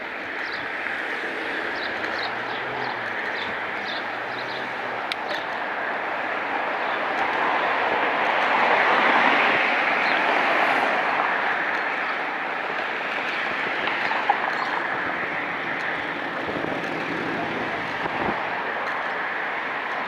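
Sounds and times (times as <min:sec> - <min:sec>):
rushing road and wind noise: 0:00.0 - 0:20.0.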